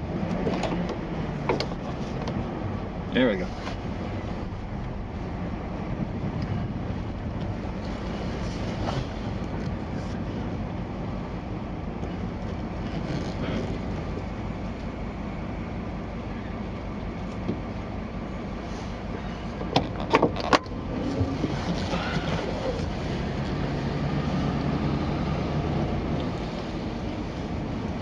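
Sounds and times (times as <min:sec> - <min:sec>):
truck engine running at low speed: 0:00.0 - 0:28.0.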